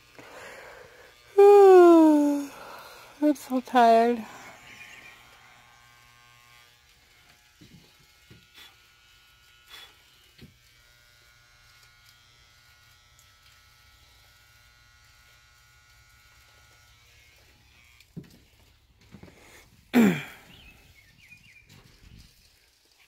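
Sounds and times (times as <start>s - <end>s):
electric shaver buzzing: 0.0s - 20.9s.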